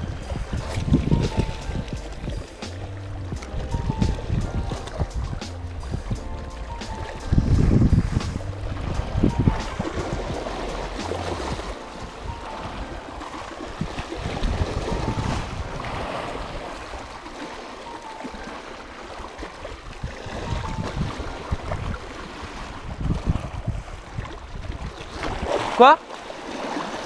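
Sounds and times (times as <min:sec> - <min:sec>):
wind on microphone: 0:00.0 - 0:17.4, 0:18.4 - 0:27.0
waves lapping over rocks: 0:00.0 - 0:27.0.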